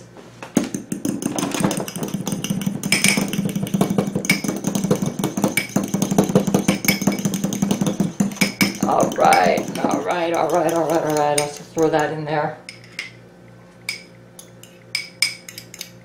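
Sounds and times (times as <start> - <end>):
spoon clinking against glass bowl: 1.0 - 12.1, 13.9 - 16.0.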